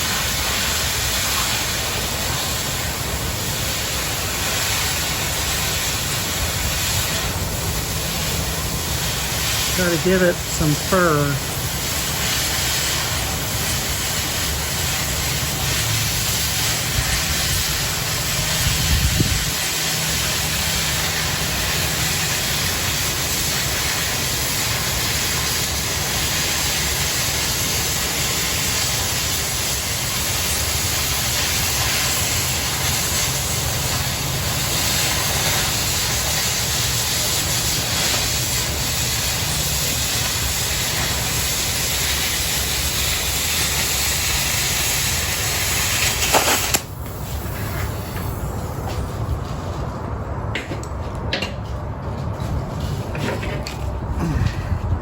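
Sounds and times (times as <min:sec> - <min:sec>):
cutting torch hissing: 0:00.0 - 0:49.4.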